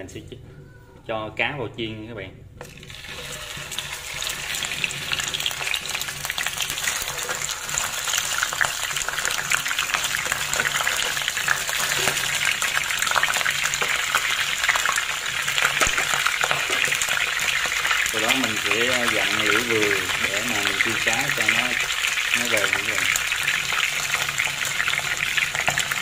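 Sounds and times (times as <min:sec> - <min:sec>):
fish sizzling in hot oil: 0:02.6 - 0:26.0.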